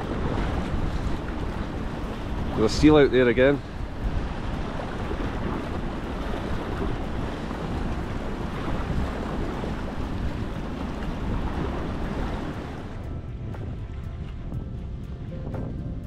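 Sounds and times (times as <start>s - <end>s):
choppy sea against rocks: 0.0s - 16.0s
wind noise on microphone: 0.0s - 16.0s.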